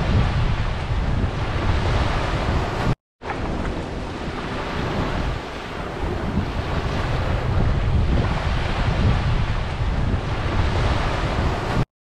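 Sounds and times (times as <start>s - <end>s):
gentle waves washing on beach: 0.0s - 11.8s
wind buffeting microphone: 0.0s - 11.8s.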